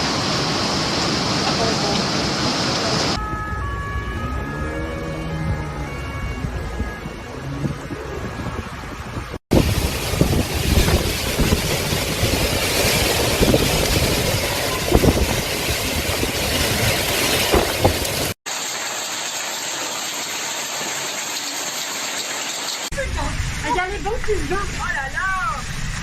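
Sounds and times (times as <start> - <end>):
heavy rain pouring: 0.0 - 3.2, 7.7 - 26.0.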